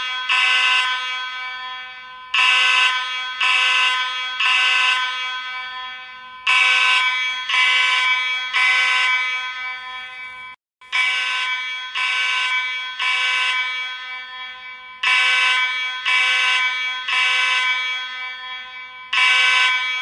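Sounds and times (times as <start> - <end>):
buzzy fire alarm horn blasts: 0.0 - 20.0.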